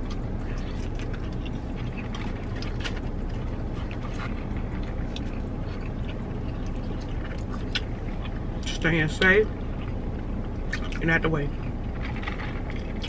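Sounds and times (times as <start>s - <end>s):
low car cabin rumble: 0.0s - 13.0s
people chewing food: 0.0s - 13.0s.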